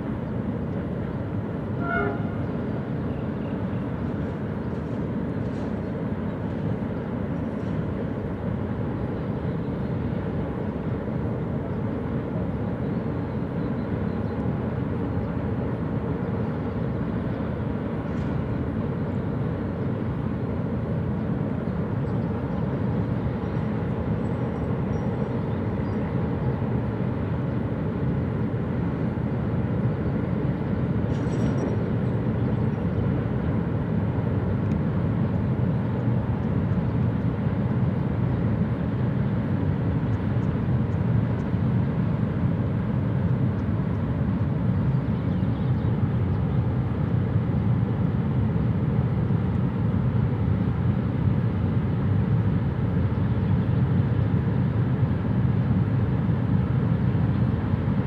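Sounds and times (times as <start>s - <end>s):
freight train rumbling over bridge: 0.0s - 58.0s.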